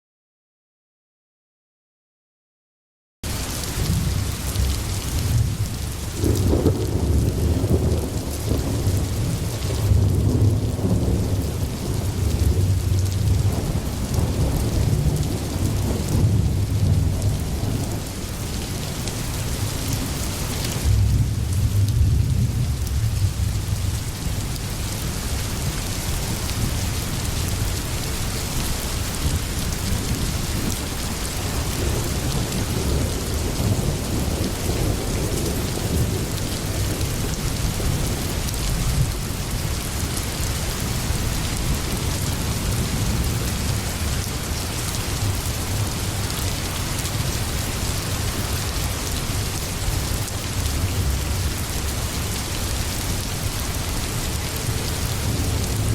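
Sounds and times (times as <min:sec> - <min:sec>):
dense rainfall: 0:03.2 - 0:55.9.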